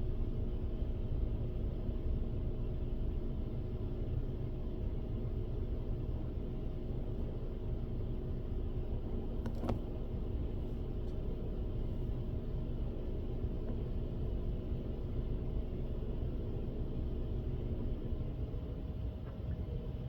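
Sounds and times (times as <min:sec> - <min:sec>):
faint steady hum: 0:00.0 - 0:20.0
low outdoor rumble: 0:00.0 - 0:20.0.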